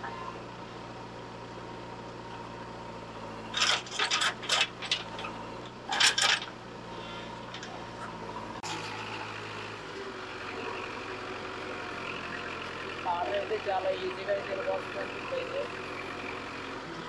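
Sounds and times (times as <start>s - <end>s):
diesel engine hum: 0.0s - 17.0s.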